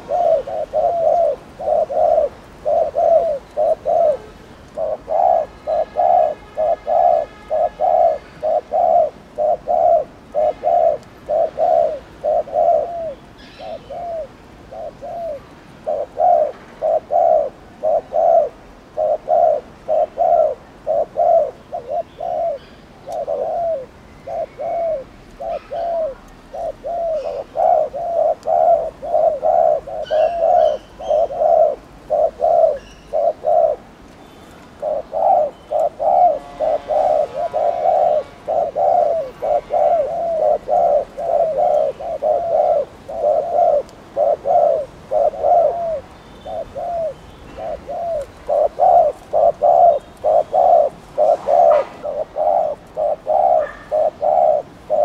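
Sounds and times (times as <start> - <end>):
dove cooing: 0.0 - 34.0, 34.6 - 55.0.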